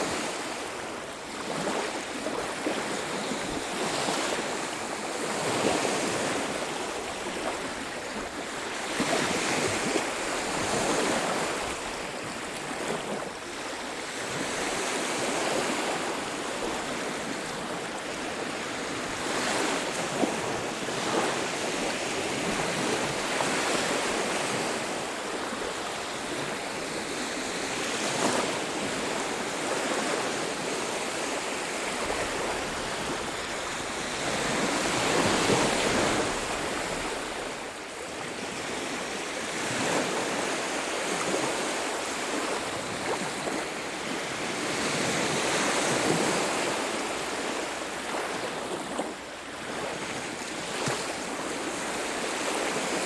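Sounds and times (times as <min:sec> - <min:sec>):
waves breaking on shore: 0:00.0 - 0:53.0.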